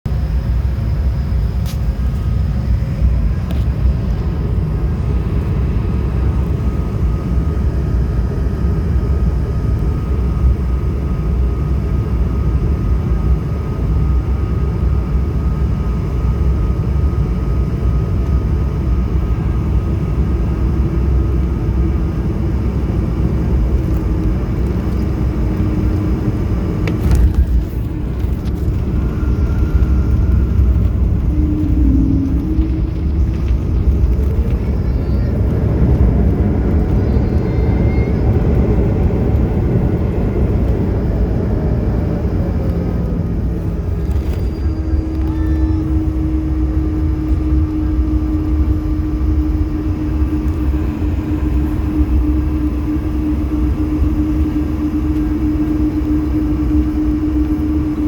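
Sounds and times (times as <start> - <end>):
airliner engine and airflow rumble: 0.0 - 58.0
faint steady whine: 0.1 - 58.0.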